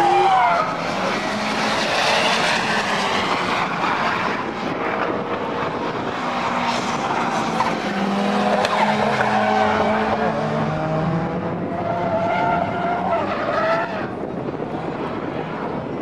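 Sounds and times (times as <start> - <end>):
car engines revving hard: 0.0 - 16.0.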